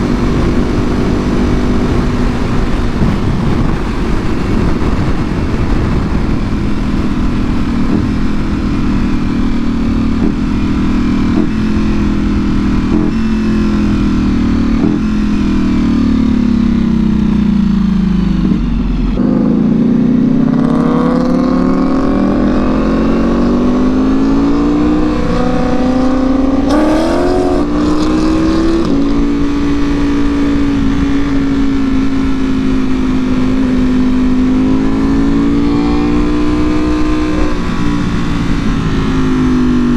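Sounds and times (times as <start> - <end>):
motorcycle engine on the road: 0.0 - 39.9.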